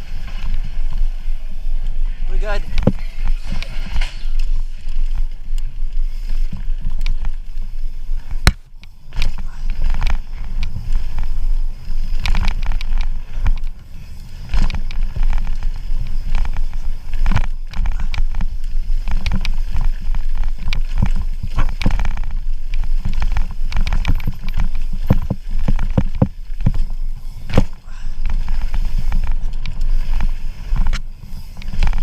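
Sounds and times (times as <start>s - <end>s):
bike rattling over rocks: 0.0s - 32.0s
wind rumble on microphone: 0.0s - 32.0s.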